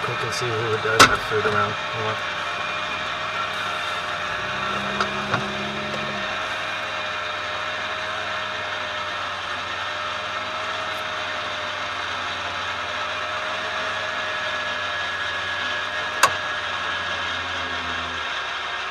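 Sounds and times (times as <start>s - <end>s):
airplane engine droning: 0.0s - 18.9s.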